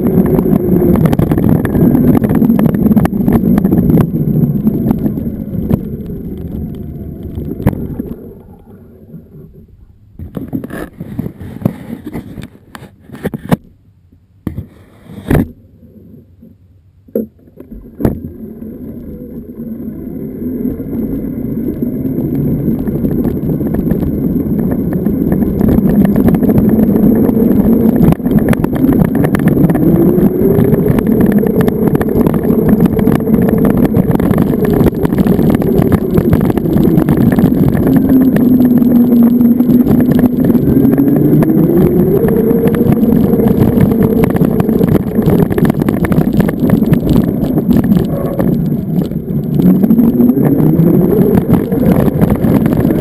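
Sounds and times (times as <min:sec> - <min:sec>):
wind rushing over microphone: 0:00.0 - 0:13.6, 0:17.7 - 0:53.0.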